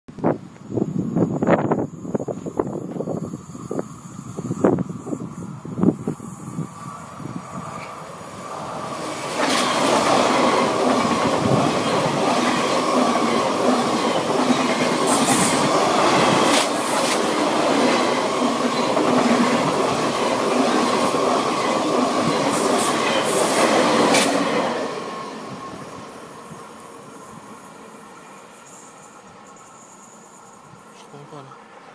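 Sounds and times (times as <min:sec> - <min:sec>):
high-speed train passing: 0:00.2 - 0:31.9.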